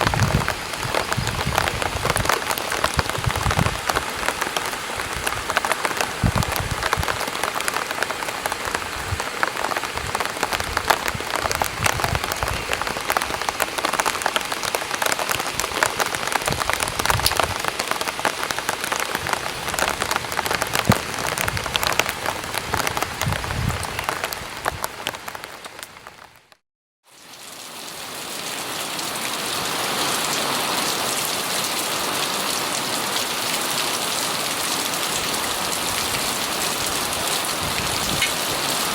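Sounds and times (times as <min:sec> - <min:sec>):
rain pattering on an umbrella: 0:00.0 - 0:38.9.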